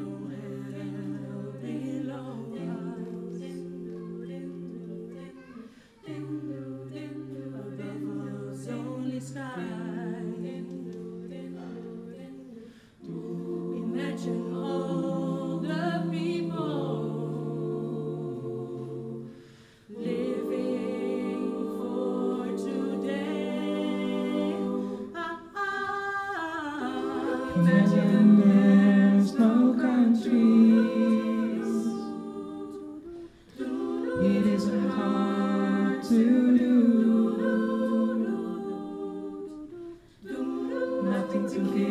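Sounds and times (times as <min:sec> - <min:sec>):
a cappella choir singing: 0:00.0 - 0:41.9.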